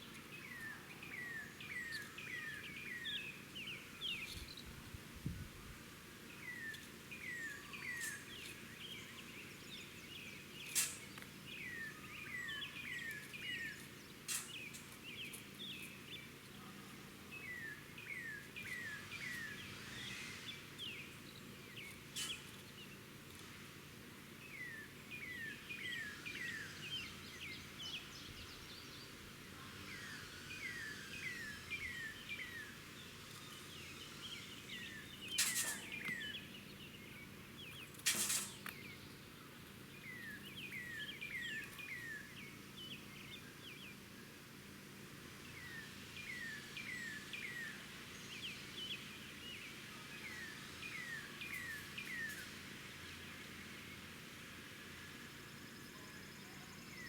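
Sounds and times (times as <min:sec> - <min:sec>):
steady outdoor background: 0:00.0 - 0:57.0.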